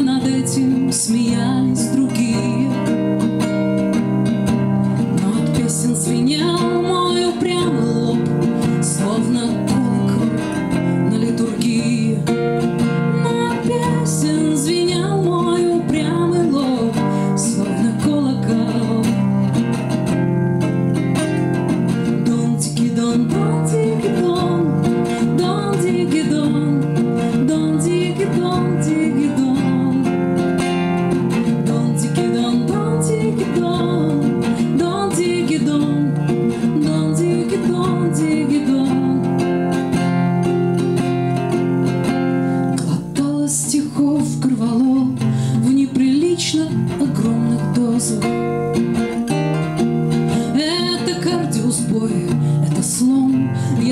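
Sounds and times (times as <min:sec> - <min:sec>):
acoustic guitar: 0:00.0 - 0:53.9
woman singing: 0:00.0 - 0:53.9.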